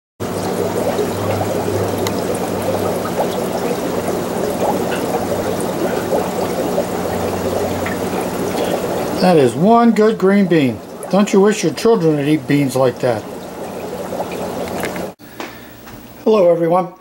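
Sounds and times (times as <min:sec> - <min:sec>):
water trickling and bubbling: 0:00.2 - 0:15.2
filter hum: 0:00.2 - 0:16.5.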